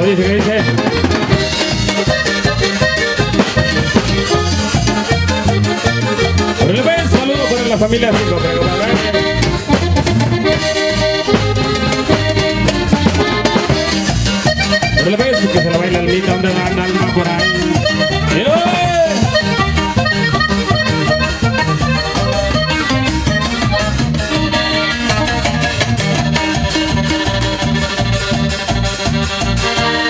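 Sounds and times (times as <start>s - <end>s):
accordion dance music: 0.0s - 30.0s.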